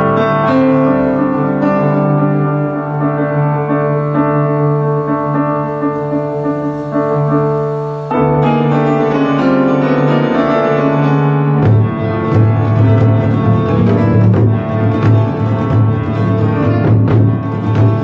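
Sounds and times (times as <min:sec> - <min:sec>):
piano playing slow chords: 0:00.0 - 0:18.0.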